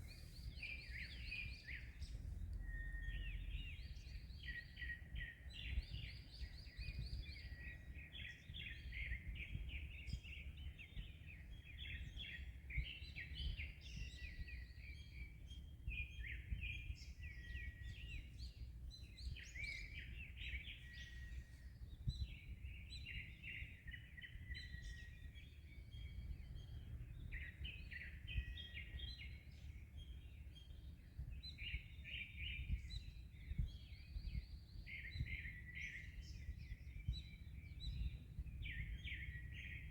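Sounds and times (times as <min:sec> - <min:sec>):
small birds singing and chirping: 0:00.0 - 0:39.9
wind: 0:00.0 - 0:39.9.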